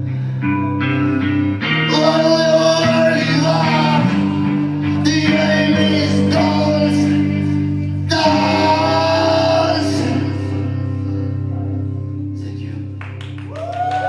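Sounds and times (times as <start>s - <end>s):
guitar chords strummed: 0.0s - 13.4s
person singing: 1.0s - 12.9s.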